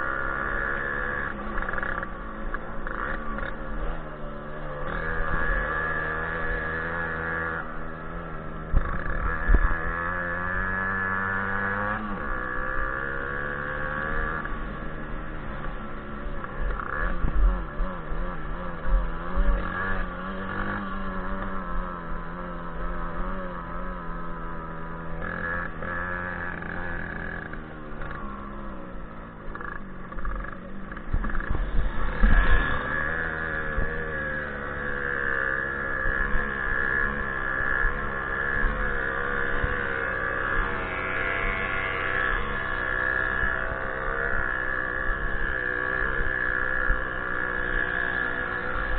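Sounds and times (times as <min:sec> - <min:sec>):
moped engine running under load: 0:00.0 - 0:48.9.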